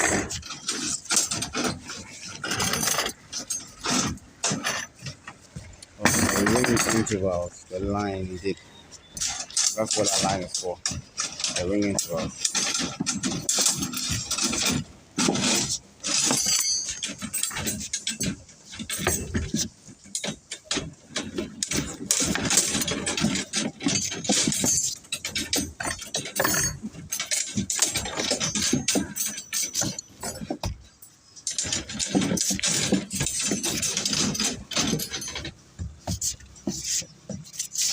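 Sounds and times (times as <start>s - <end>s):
metal rods knocking and clinking: 0.0s - 37.9s.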